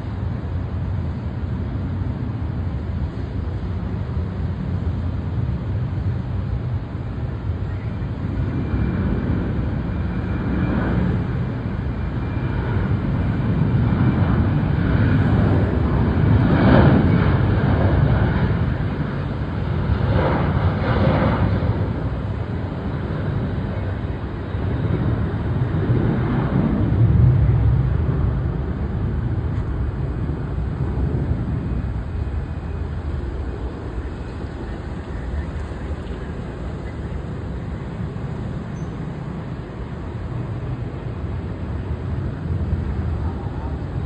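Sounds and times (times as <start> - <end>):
jet engines roaring at takeoff: 0.0 - 44.0.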